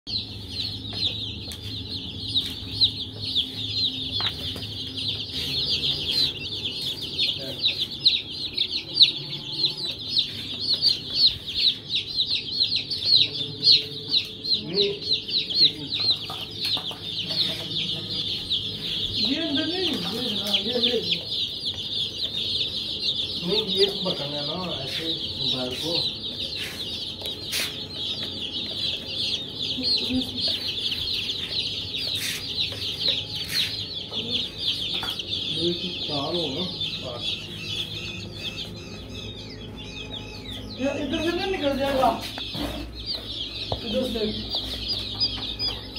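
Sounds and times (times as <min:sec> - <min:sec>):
baby chicks peeping: 0:00.0 - 0:45.9.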